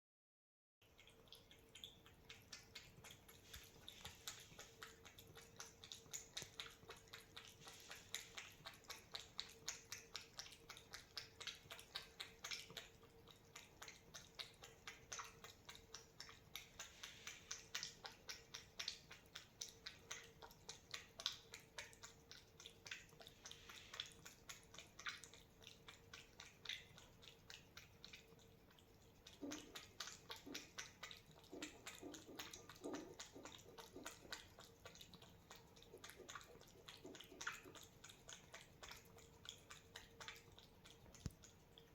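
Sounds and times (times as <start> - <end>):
cat eating wet clicking: 0.8 - 41.9
faint steady hum: 0.8 - 41.9.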